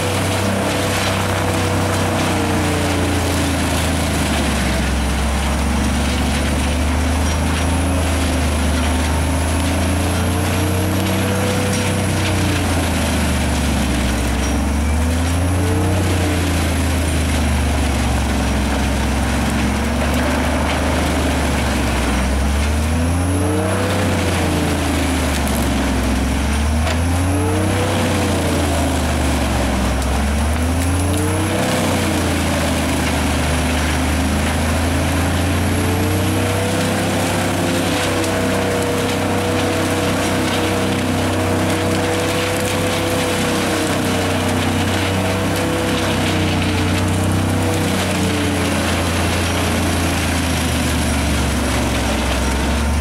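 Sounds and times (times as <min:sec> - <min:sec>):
diesel engine running: 0:00.0 - 0:53.0
wood chipper rushing: 0:00.0 - 0:53.0.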